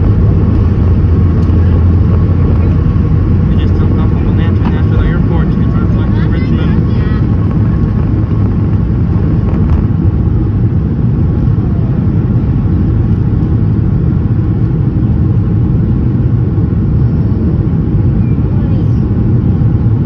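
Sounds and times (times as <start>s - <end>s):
airflow over fuselage: 0.0s - 20.0s
jet engines low rumble: 0.0s - 20.0s.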